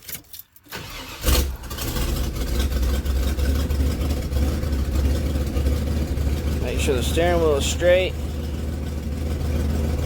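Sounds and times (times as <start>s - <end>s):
truck engine starting: 0.6s - 10.0s
truck engine idling: 0.8s - 10.0s.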